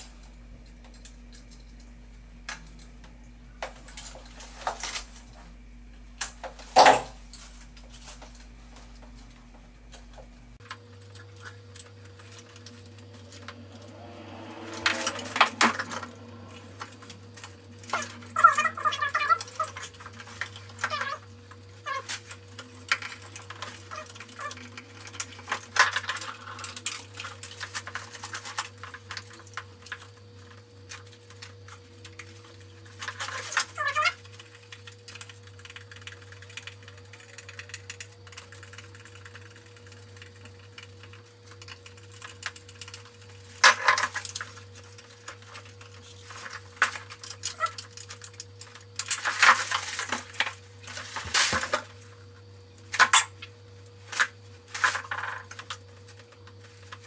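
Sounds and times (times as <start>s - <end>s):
electrical cable rustling: 0.0s - 52.1s.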